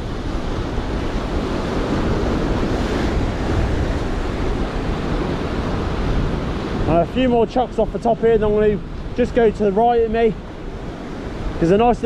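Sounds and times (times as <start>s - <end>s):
surf breaking over boulders: 0.0s - 12.0s
wind buffeting microphone: 0.0s - 12.0s.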